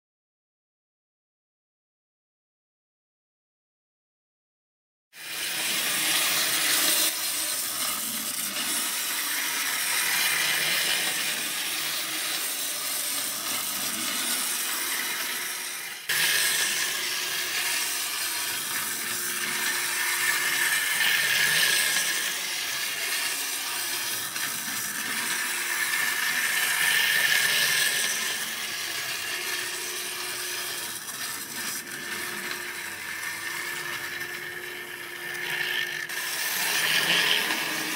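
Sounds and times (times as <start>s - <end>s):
toy train clockwork motor whirring: 5.2s - 37.9s.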